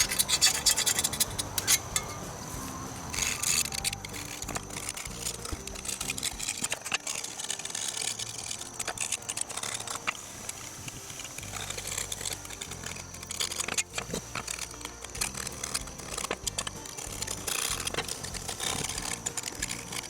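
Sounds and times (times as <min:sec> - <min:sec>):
background music: 0:00.0 - 0:20.0
scraper scraping mower blade: 0:00.0 - 0:20.0.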